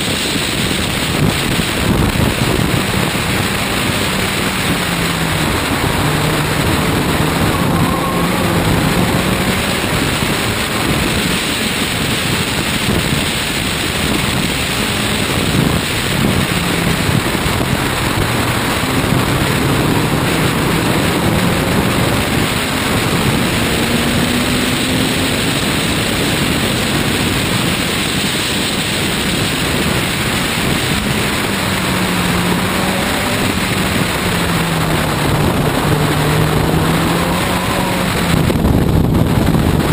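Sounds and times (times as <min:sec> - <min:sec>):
race car engine revving: 0:00.0 - 0:39.9
wind rush on microphone: 0:00.0 - 0:39.9.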